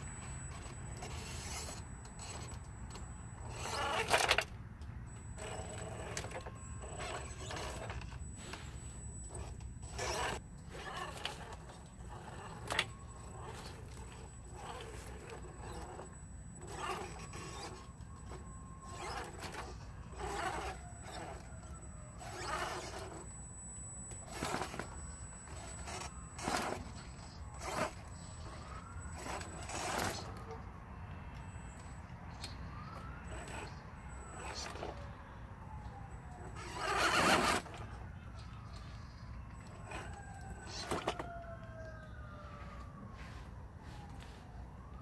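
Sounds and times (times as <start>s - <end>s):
toy car squeaks and scrapes: 0.0s - 4.5s, 5.1s - 30.7s, 31.4s - 42.1s
faint electric motor whine: 0.0s - 45.0s.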